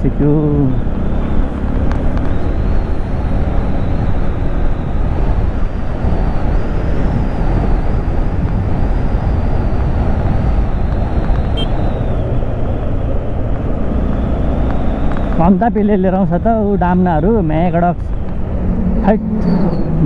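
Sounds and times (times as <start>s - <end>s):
motorcycle engine rumble: 0.0s - 20.0s
wind rushing over microphone: 0.0s - 20.0s.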